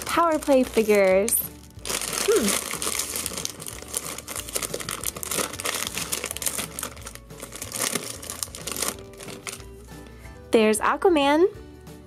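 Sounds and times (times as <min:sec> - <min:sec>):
plastic wrapper crinkling: 0:00.0 - 0:09.8.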